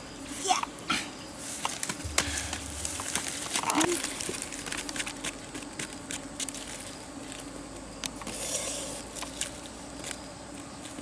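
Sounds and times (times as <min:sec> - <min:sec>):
faint steady hum: 0:00.0 - 0:11.0
leaves clicking and rustling: 0:01.4 - 0:11.0.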